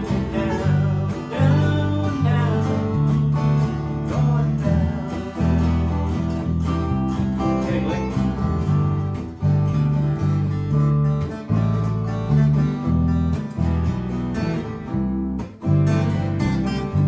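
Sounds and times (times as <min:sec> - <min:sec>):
acoustic guitars strumming: 0:00.0 - 0:17.0
bass guitar: 0:00.0 - 0:17.0.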